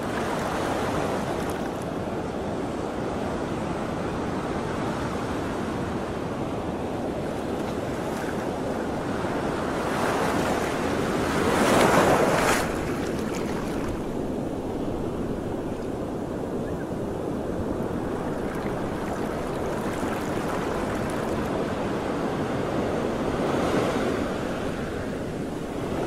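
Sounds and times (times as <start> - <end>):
sea waves washing: 0.0 - 2.6, 6.1 - 26.0
wind on microphone: 4.5 - 26.0.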